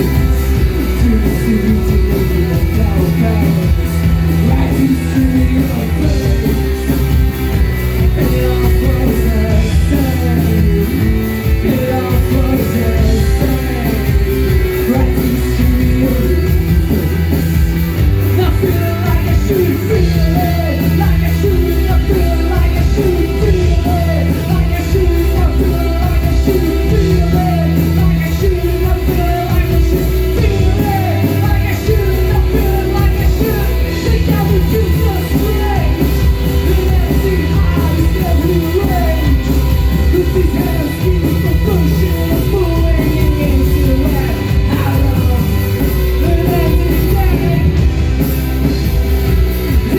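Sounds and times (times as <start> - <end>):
live rock band playing: 0.0 - 49.9
person singing: 0.0 - 49.9.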